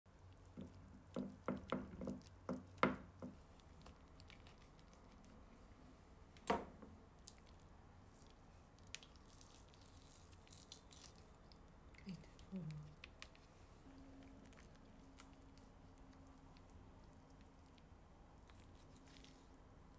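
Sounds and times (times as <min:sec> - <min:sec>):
sticky squishing of raw chicken: 0:00.1 - 0:06.2, 0:07.1 - 0:19.9.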